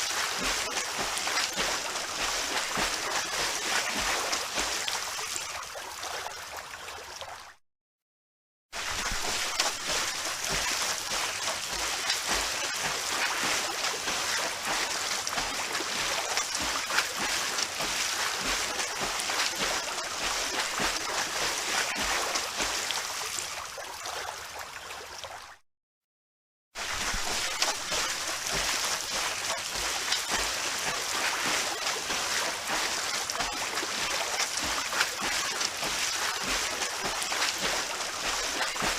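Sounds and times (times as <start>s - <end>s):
swimmers splashing water: 0.0s - 5.6s, 8.8s - 23.7s, 26.8s - 38.9s.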